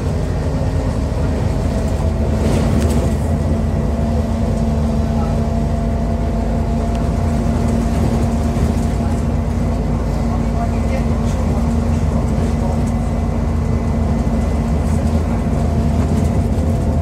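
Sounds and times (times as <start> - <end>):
bus diesel engine drone: 0.0 - 17.0
road rumble: 0.0 - 17.0.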